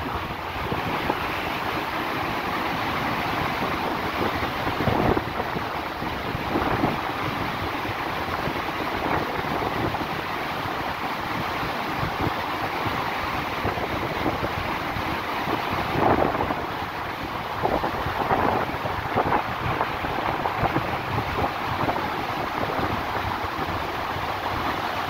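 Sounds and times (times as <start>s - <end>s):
boat wake water roaring: 0.0s - 25.0s
wind buffeting microphone: 3.3s - 10.3s, 11.6s - 25.0s.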